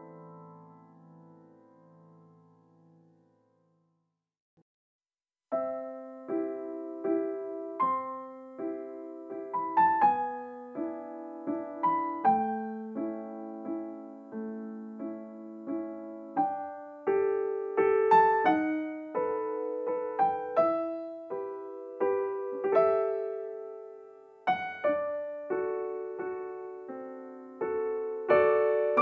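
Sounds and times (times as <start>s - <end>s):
gentle piano music: 0.0s - 3.7s, 5.5s - 29.0s.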